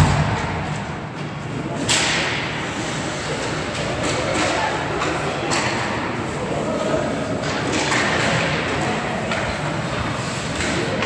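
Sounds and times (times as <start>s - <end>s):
rumbling din of skating: 0.0s - 11.0s.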